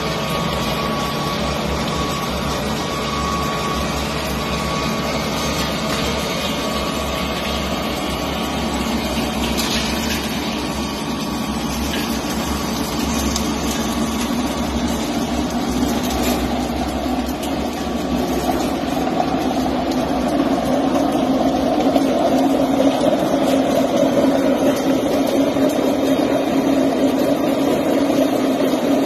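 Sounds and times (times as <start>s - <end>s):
pellet mill machine drone: 0.0s - 29.0s.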